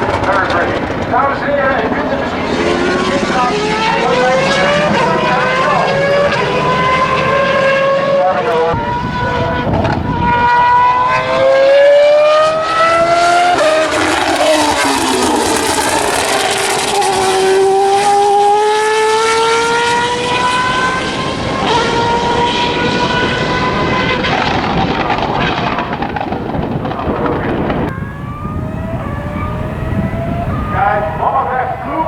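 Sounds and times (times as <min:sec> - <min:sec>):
race car engine accelerating: 0:00.0 - 0:32.0.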